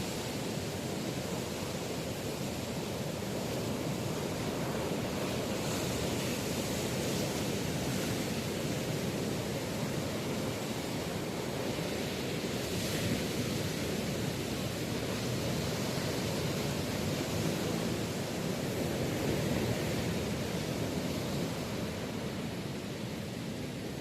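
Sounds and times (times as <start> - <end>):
surf breaking on beach: 0.0 - 24.0.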